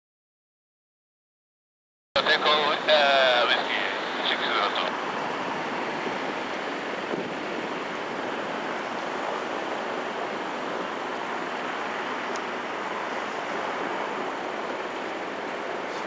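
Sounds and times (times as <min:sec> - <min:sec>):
steady rushing noise: 0:02.2 - 0:16.0.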